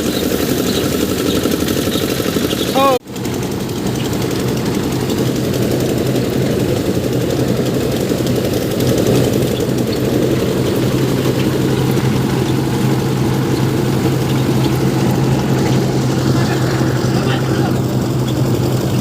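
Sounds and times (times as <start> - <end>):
thresher engine droning: 0.0 - 19.0.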